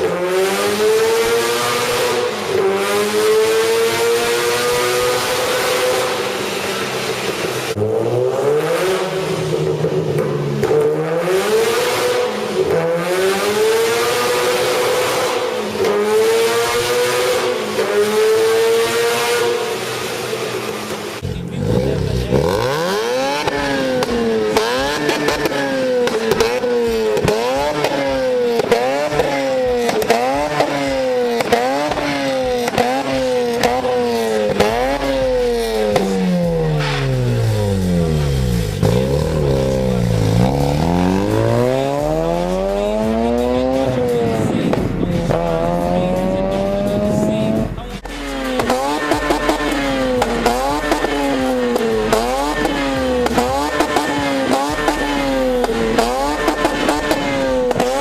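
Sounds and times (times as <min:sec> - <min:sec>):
rotary engine revving: 0:00.0 - 0:58.0.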